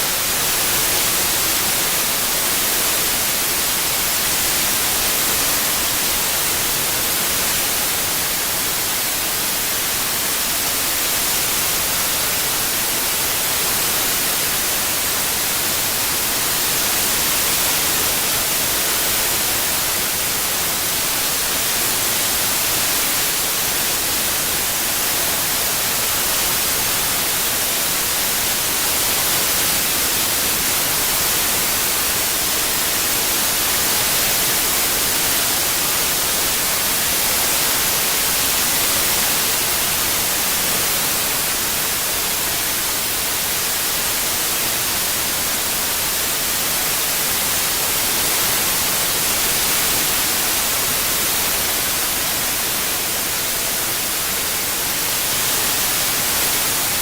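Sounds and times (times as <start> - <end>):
synthetic white noise hiss: 0.0 - 57.0.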